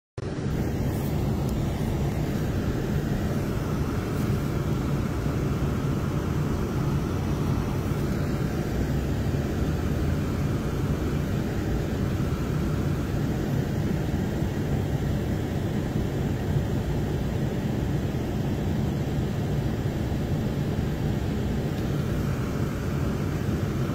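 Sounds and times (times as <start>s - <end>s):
car road and engine rumble: 0.2s - 23.9s.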